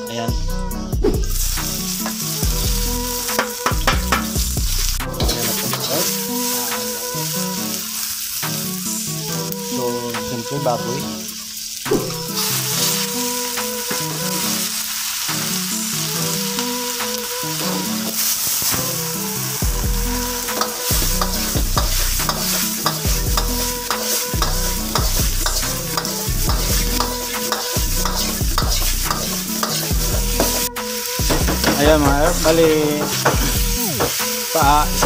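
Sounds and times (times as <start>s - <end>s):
meat sizzling in hot oil: 1.0s - 35.0s
metal ladle scraping wok: 1.3s - 35.0s.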